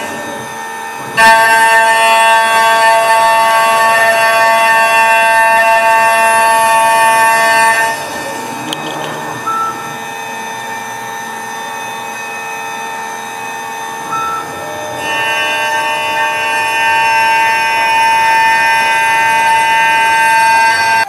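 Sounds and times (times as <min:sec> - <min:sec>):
milling spindle whine: 0:00.0 - 0:21.0.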